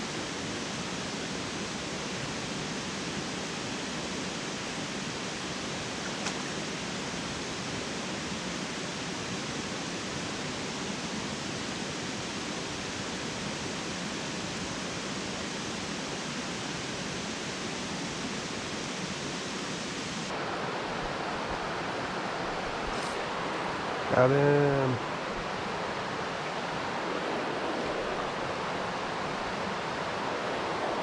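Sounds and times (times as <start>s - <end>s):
mountain stream rushing: 0.0s - 31.0s.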